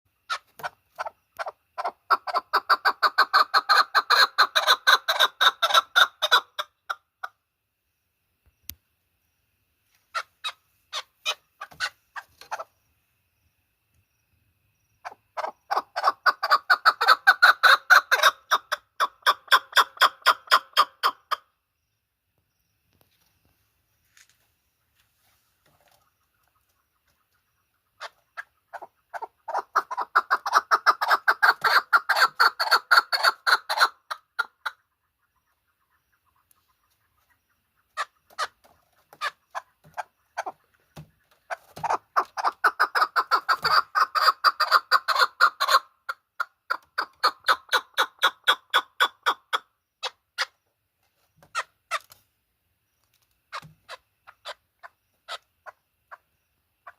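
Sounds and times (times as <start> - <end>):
partridge chuck calls: 0.2 - 7.4, 10.1 - 12.8, 14.8 - 21.6, 25.6 - 50.7, 51.4 - 52.2, 53.5 - 56.9.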